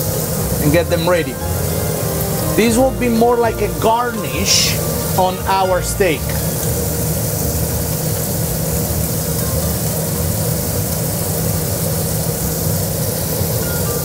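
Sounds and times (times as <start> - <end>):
range hood fan humming: 0.0 - 14.0
steak searing in skillet: 0.0 - 14.0.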